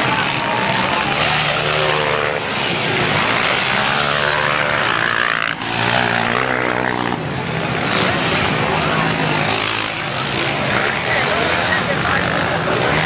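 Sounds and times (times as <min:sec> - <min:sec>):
dirt bike accelerating: 0:00.0 - 0:13.0
dirt bike engines revving: 0:00.0 - 0:13.0.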